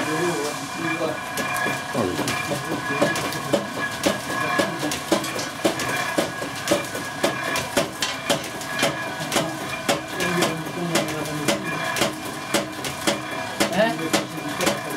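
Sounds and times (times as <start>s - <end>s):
oil press mechanical hum: 0.0s - 14.9s.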